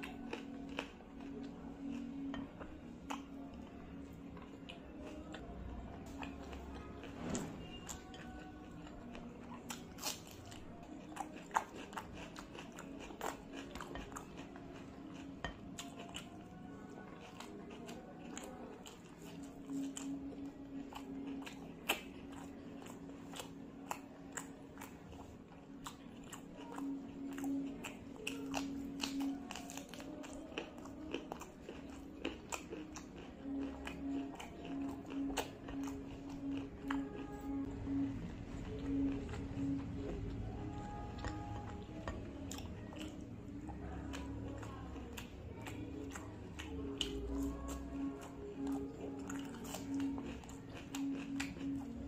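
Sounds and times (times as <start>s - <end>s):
person chewing and crunching food: 0.0s - 52.0s
quiet background music: 0.0s - 52.0s.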